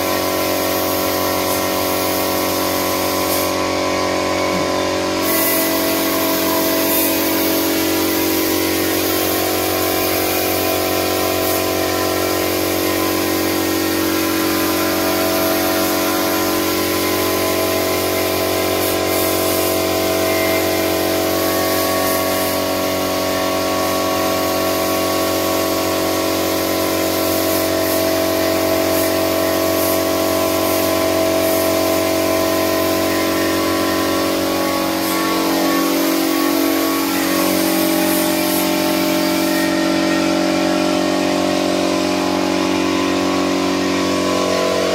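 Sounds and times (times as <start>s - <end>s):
air compressor humming: 0.0s - 44.9s
spray gun hissing: 0.0s - 44.9s.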